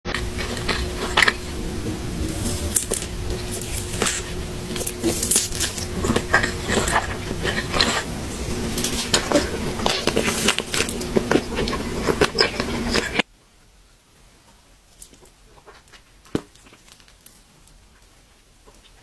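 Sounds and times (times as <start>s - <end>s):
crunchy eating and chewing: 0.1s - 13.3s, 14.9s - 19.0s.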